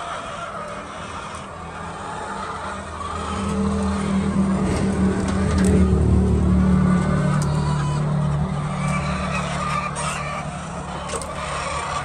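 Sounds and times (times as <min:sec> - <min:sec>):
engine humming: 0:01.4 - 0:12.0.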